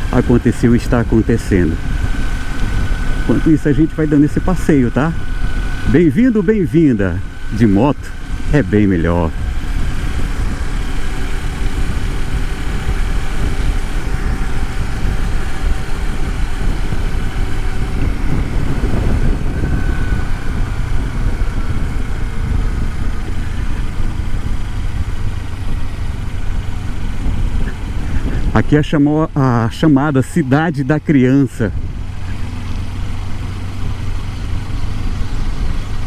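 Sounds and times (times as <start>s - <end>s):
motorcycle engine running: 0.0s - 36.0s
wind and road noise: 0.0s - 36.0s.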